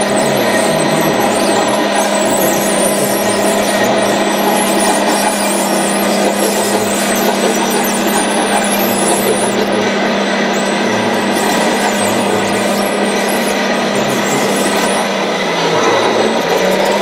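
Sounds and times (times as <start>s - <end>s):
toy bulldozer motor droning: 0.0s - 17.0s.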